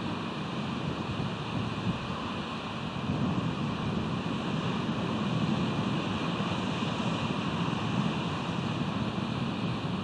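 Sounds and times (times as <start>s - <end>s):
ocean surf: 0.0s - 10.0s
wind on microphone: 0.0s - 10.0s.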